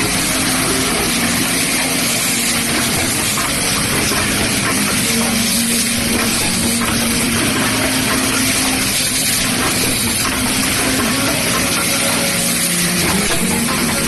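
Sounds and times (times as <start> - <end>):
machine mechanical din: 0.0 - 14.0.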